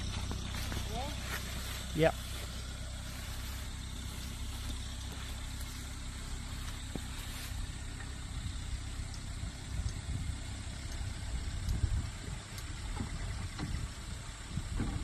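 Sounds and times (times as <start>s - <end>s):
car engine running at low revs: 0.0s - 15.0s
uneven low rumbles: 0.0s - 15.0s.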